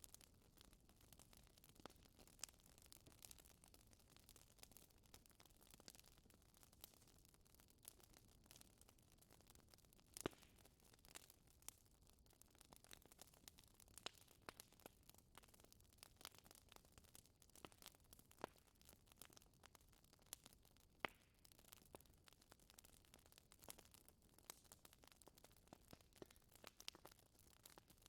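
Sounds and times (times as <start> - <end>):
fire popping: 0.0 - 28.0
wood fire crackling: 0.0 - 28.0.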